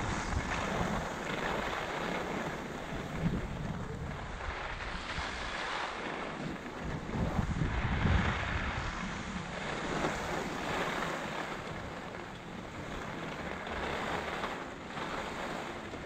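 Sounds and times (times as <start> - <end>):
skis hissing over snow: 0.0 - 15.8
wind buffeting the microphone: 0.0 - 16.0.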